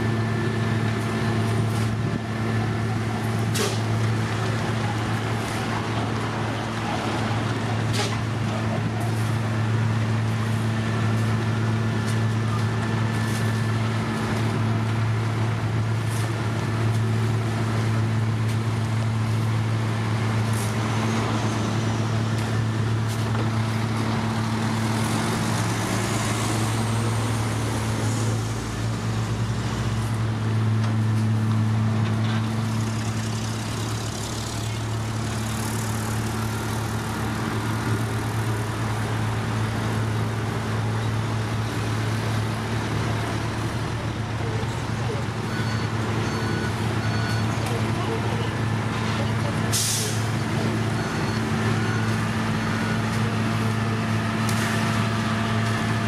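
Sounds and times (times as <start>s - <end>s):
diesel paving machinery running: 0.0s - 56.0s.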